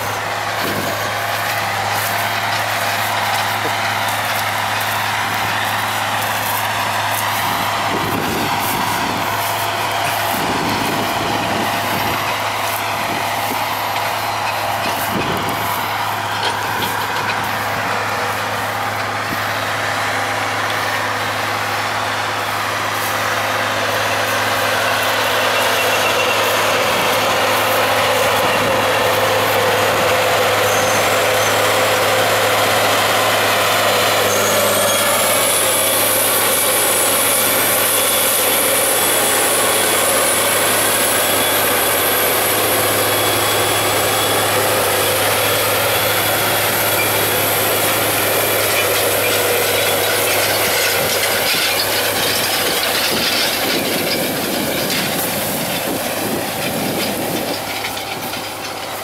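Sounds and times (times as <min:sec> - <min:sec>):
cultivator cutting through soil: 0:00.0 - 0:59.0
high whine: 0:00.0 - 0:59.0
tractor diesel engine under load: 0:00.0 - 0:59.0.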